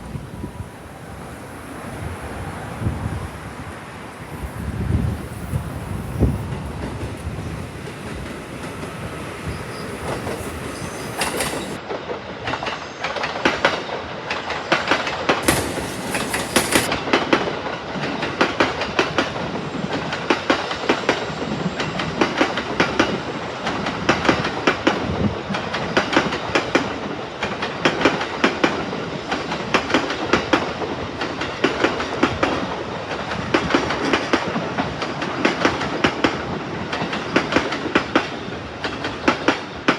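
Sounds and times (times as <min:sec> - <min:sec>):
train wheels clacking over rails: 0:05.0 - 0:39.9.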